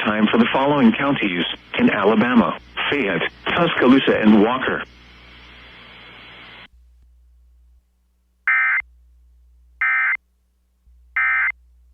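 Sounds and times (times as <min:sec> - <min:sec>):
faint radio hiss: 0:00.0 - 0:11.9.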